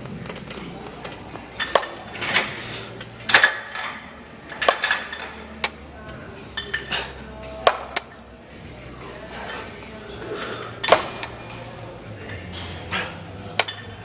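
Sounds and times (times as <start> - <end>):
metal gym weights clanking: 0.0 - 14.0.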